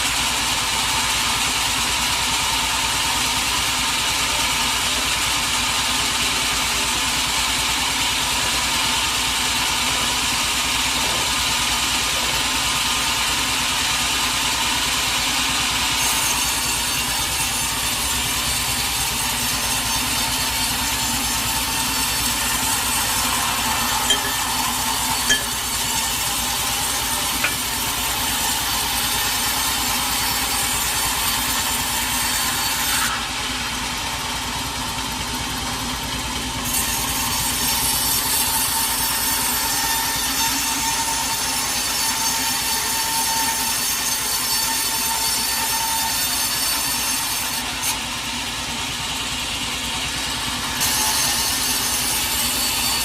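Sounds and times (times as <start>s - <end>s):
saw hissing through log: 0.0s - 53.0s
sawmill machine hum: 0.0s - 53.0s.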